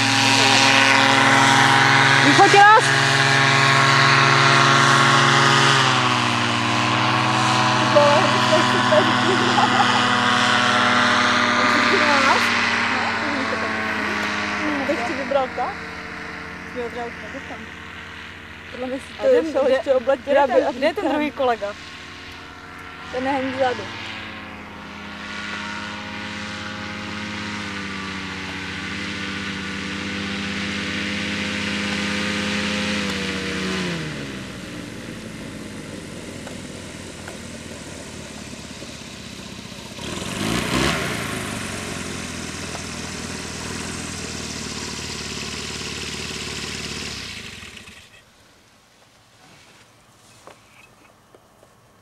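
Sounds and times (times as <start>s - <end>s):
paramotor engine and propeller: 0.0s - 52.0s.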